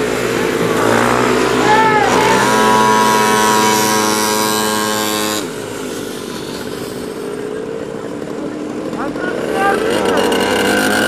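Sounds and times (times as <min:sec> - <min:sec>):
small two-stroke engine whine: 0:00.0 - 0:11.0.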